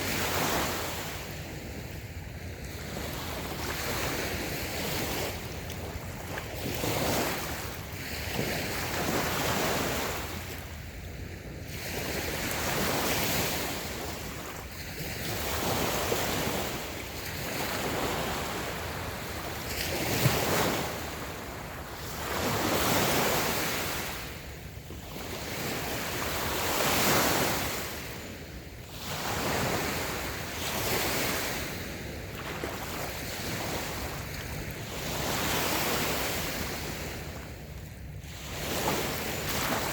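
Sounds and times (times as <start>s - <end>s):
gentle waves washing on sand: 0.0s - 39.9s.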